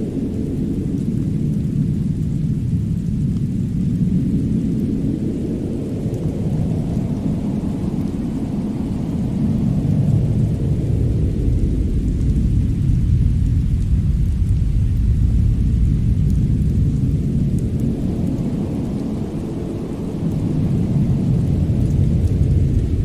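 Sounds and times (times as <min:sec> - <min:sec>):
deep steady rumbling: 0:00.8 - 0:23.0.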